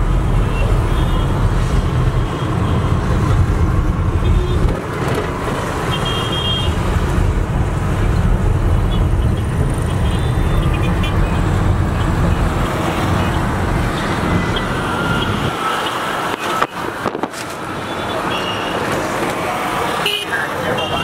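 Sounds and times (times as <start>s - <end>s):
road traffic engines and tyres: 0.0s - 21.0s.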